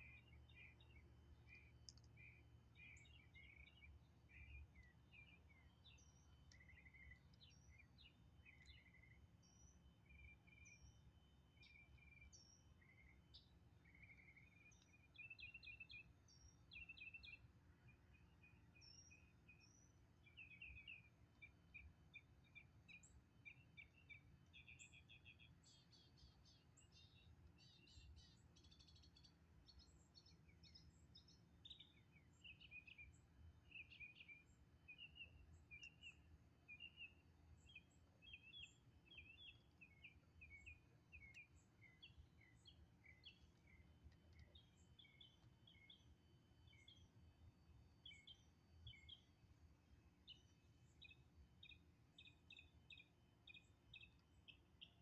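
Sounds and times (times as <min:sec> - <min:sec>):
birds chirping: 0:00.0 - 0:17.4, 0:18.1 - 0:47.1
low steady background noise: 0:00.0 - 0:55.0.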